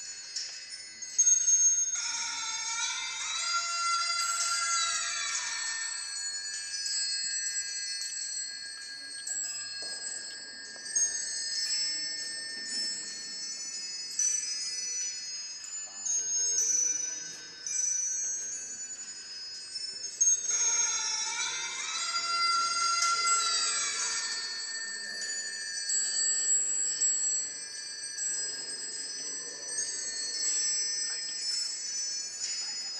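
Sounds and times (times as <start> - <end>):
small bells chiming: 0.0 - 32.9.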